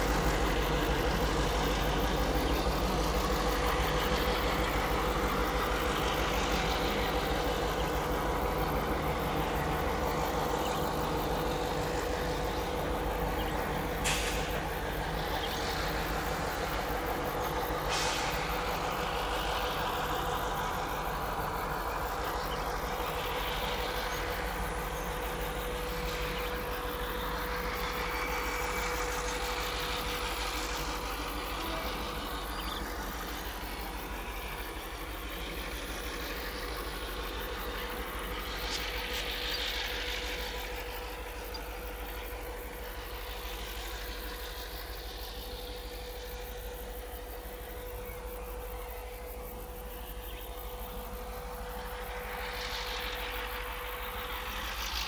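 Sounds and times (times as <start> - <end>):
diesel locomotive engine running: 0.0 - 55.0
steady whine: 0.0 - 55.0.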